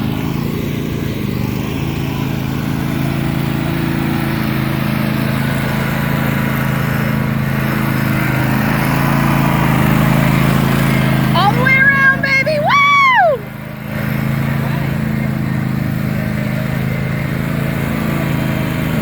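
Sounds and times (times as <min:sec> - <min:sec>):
riding lawn mower engine: 0:00.0 - 0:19.0.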